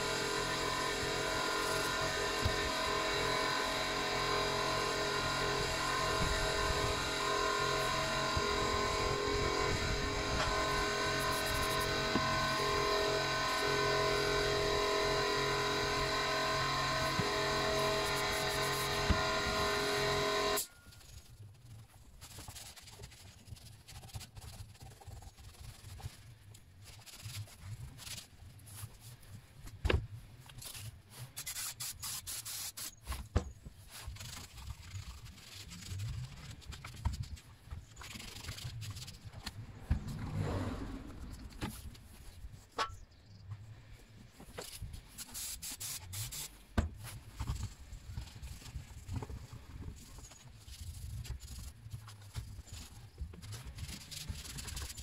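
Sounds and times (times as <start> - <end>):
rubbing and scraping: 7.6 - 55.0.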